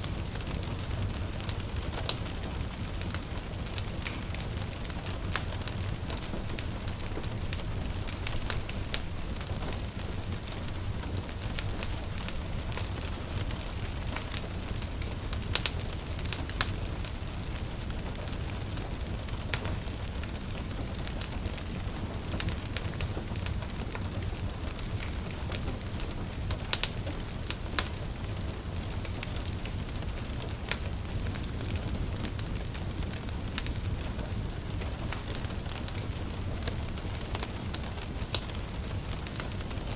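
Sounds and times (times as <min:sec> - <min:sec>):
gentle rain patter: 0:00.0 - 0:39.9
wood fire crackling: 0:00.0 - 0:39.9.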